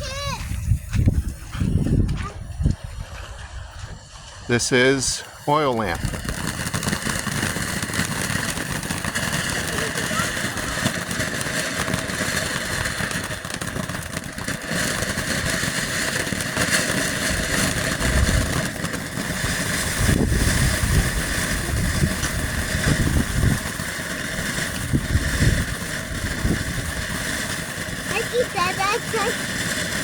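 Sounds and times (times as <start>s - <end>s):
firework fountain hissing: 0.0s - 30.0s.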